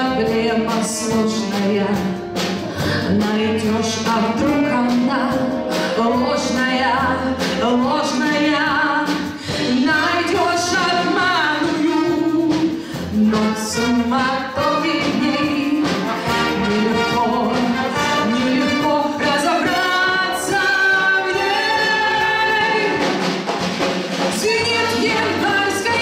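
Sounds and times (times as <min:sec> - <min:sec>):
woman singing with vibrato: 0:00.0 - 0:23.3, 0:24.3 - 0:26.0
brass band playing: 0:00.0 - 0:26.0.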